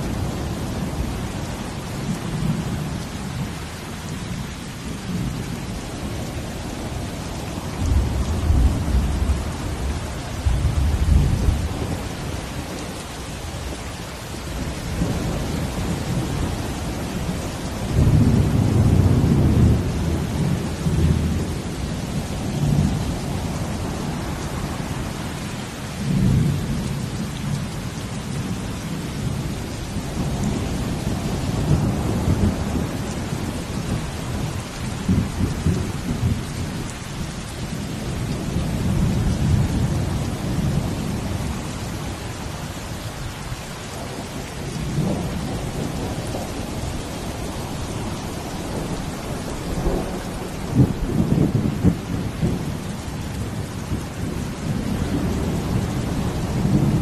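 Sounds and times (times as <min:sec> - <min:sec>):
steady falling rain: 0:00.0 - 0:57.0.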